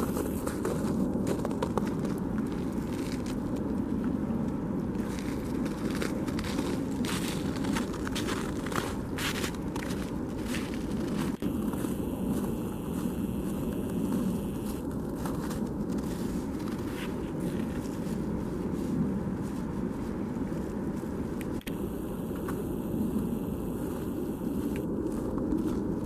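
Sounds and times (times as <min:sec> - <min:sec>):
low outdoor background noise: 0:00.0 - 0:26.0.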